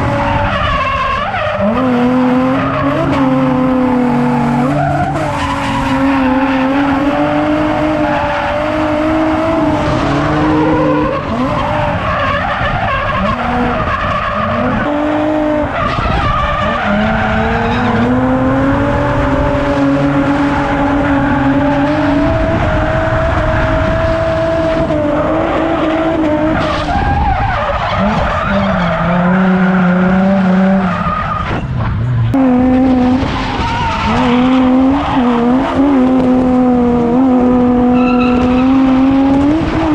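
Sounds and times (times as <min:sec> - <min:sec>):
car engine revving: 0:00.0 - 0:39.9
tyres skidding: 0:00.0 - 0:39.9.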